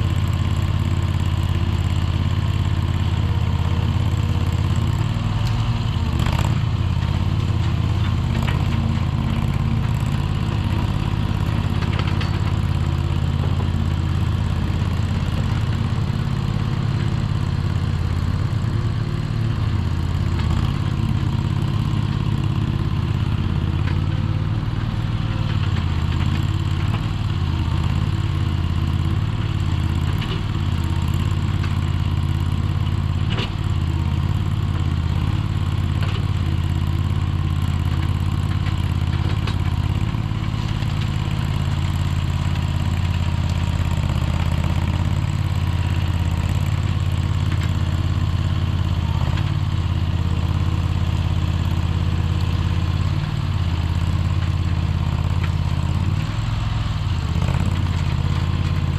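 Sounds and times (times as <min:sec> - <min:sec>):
skid steer engine running: 0:00.0 - 0:58.9.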